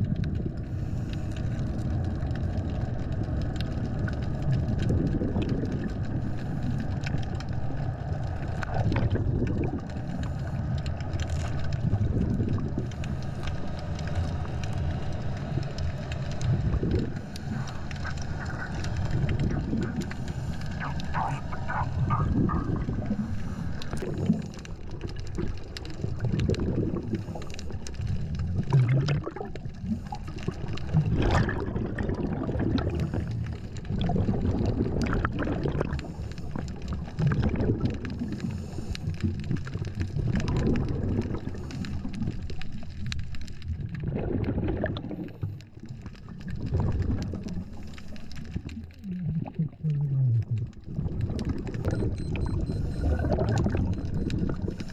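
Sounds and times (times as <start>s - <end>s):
underwater bubbles gurgling: 0.0s - 54.9s.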